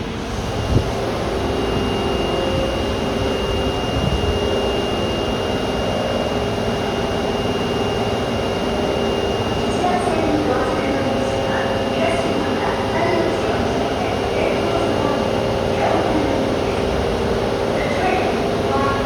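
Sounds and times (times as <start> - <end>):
high-pitched whine: 0.0 - 19.0
subway train humming: 0.0 - 19.0.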